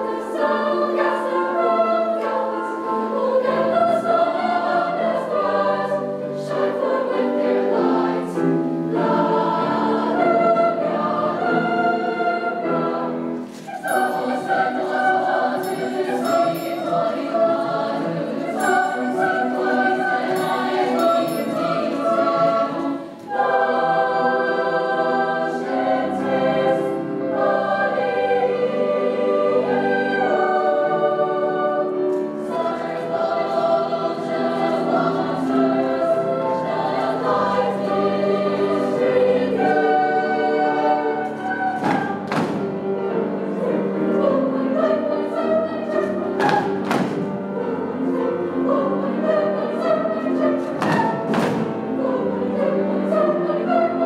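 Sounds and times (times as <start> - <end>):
youth choir singing: 0.0 - 54.0.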